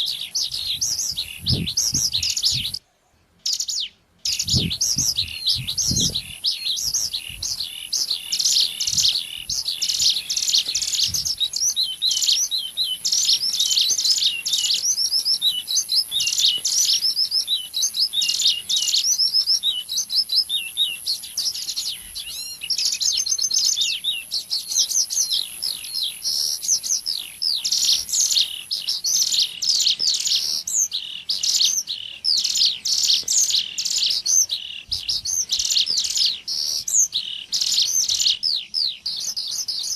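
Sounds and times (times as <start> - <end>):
bird chirps and trills: 0.0 - 2.8, 3.4 - 39.9.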